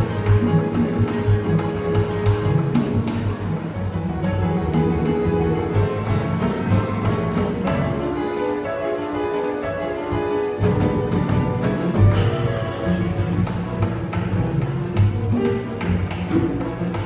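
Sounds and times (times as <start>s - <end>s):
double bass line: 0.0s - 9.0s, 9.6s - 17.0s
small live band playing: 0.0s - 17.0s.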